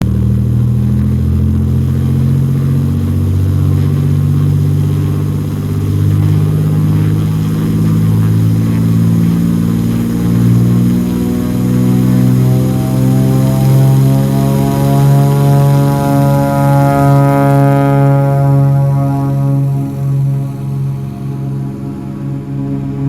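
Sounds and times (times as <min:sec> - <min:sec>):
propeller plane engine at takeoff: 0:00.0 - 0:23.0.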